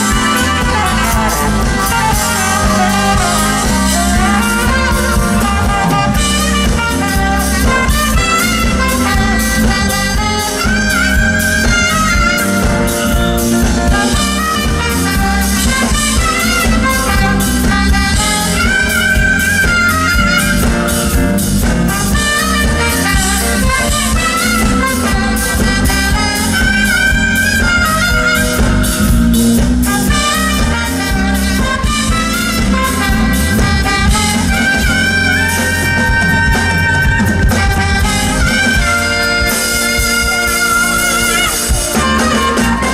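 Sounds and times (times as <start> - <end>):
bass: 0.0 - 42.9
drums: 0.0 - 42.9
saxophone melody: 0.0 - 42.9.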